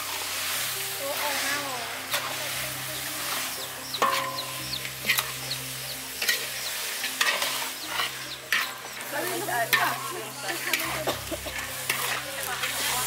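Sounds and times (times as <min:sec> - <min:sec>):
hot oil sizzling: 0:00.0 - 0:13.0
metal ladle scraping a wok: 0:00.0 - 0:13.0.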